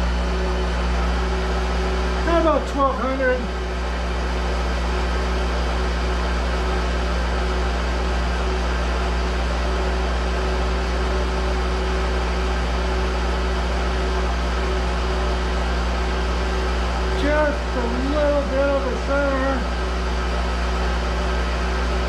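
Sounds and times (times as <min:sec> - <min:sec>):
lathe running: 0:00.0 - 0:22.0.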